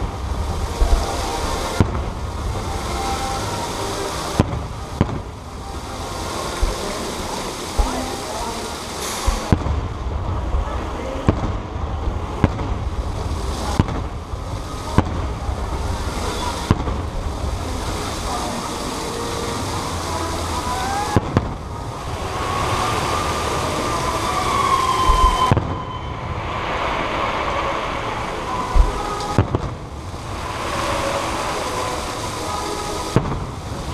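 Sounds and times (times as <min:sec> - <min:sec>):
fireworks bangs: 0:00.0 - 0:05.7, 0:09.0 - 0:18.6, 0:19.4 - 0:33.9
steady rumble: 0:00.0 - 0:33.9.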